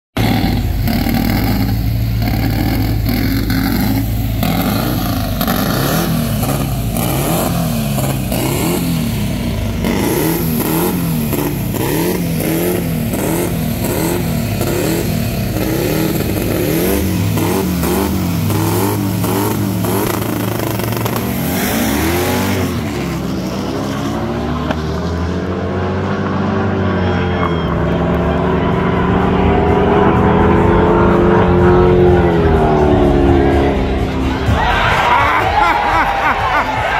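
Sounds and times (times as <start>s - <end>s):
car engines revving: 0.1s - 36.9s
race cars launching: 0.2s - 36.9s.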